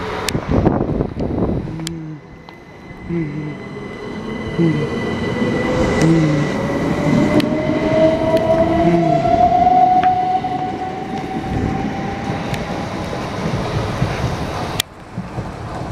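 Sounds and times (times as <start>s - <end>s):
wheels rumbling on rail: 0.0s - 15.9s.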